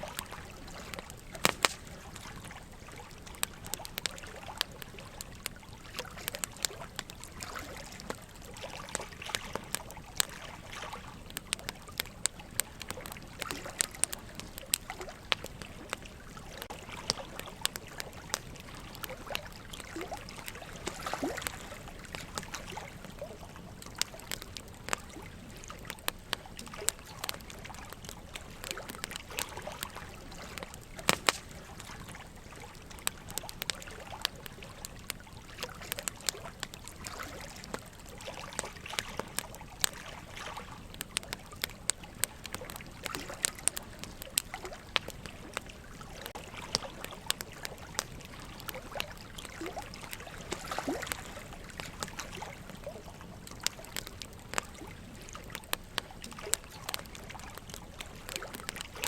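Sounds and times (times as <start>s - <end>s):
running water trickling: 0.0s - 59.0s
wood fire crackling and popping: 0.0s - 59.0s.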